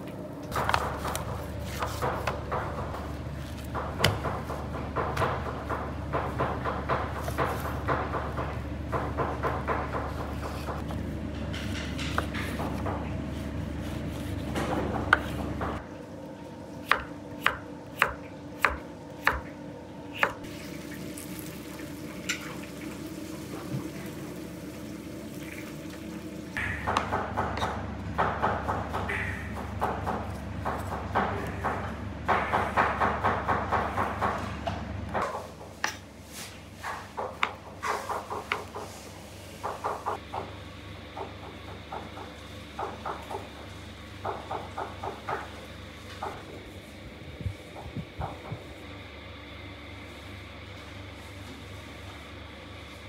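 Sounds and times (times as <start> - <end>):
low kitchen hum: 0.0 - 53.0.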